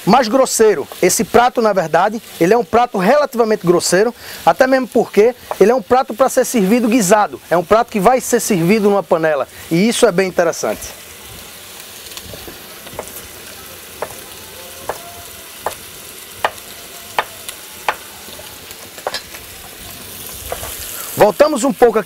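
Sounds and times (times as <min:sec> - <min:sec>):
meat sizzling in a pot: 0:00.0 - 0:22.0.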